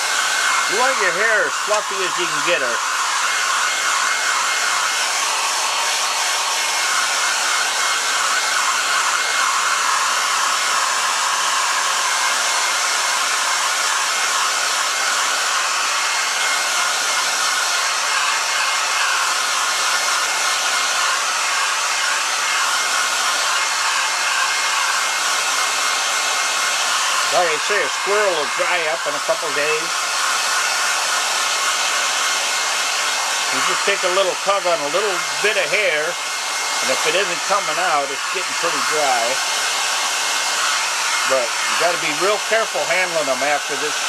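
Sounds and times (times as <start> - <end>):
hair dryer blowing air: 0.0 - 44.0
hair dryer whine: 0.0 - 44.0.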